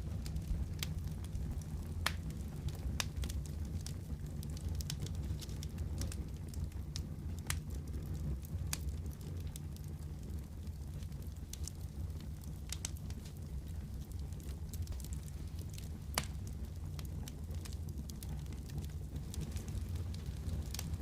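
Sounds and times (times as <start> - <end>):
fire crackling and popping: 0.0 - 21.0
fire rumbling: 0.0 - 21.0.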